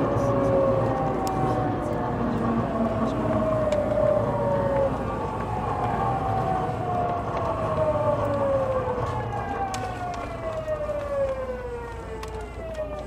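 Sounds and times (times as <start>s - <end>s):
train motor whine: 0.0s - 13.0s
wheels rumbling on rail: 0.0s - 13.0s.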